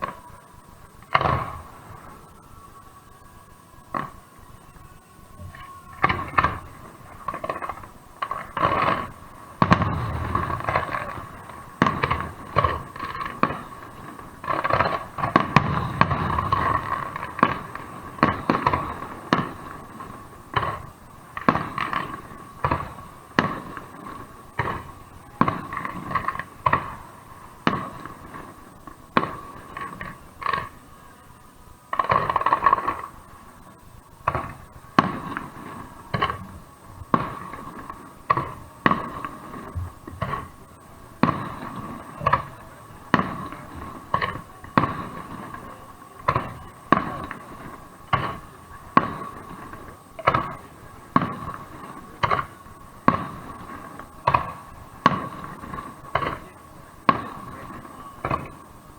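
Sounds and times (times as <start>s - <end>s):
sharp firework bangs: 0.0s - 2.5s, 5.4s - 31.0s, 31.9s - 58.9s
firework crackling: 0.0s - 58.9s.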